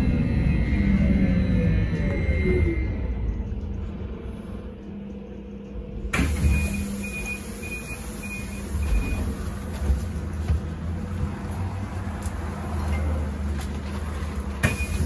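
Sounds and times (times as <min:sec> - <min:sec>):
trolleybus rumble and hum: 0:00.0 - 0:15.0.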